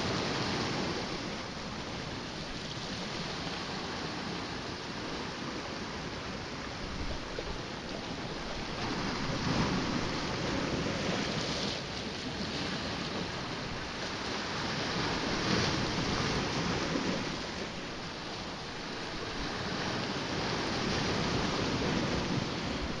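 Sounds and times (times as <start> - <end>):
sea waves washing against rocks: 0.0 - 23.0.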